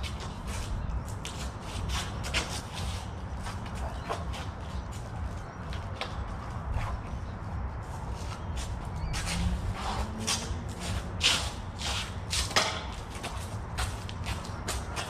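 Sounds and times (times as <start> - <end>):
wind on microphone: 0.0 - 12.3
shoes scuffing and shuffling: 0.0 - 15.0.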